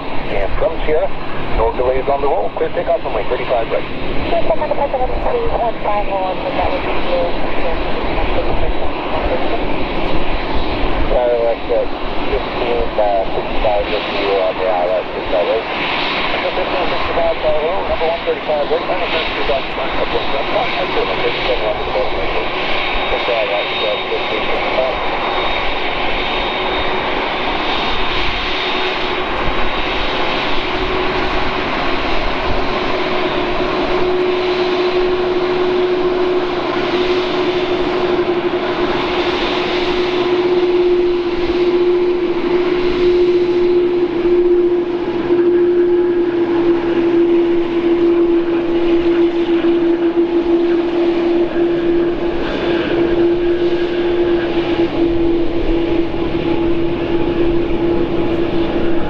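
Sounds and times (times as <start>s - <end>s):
jet engines idling: 0.0s - 59.0s.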